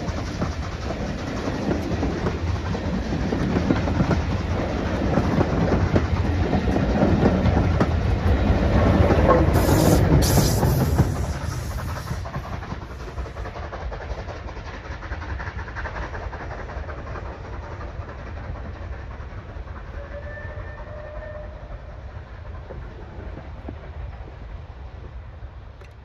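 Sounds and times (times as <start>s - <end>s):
train wheels clicking over rail joints: 0.0s - 21.4s.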